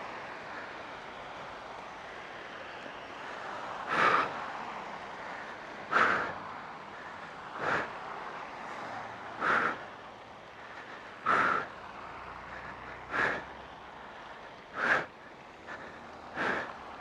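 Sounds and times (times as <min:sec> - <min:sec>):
hiss of wet traffic: 0:00.0 - 0:17.0
man breathing hard: 0:00.0 - 0:17.0
rain: 0:00.0 - 0:17.0.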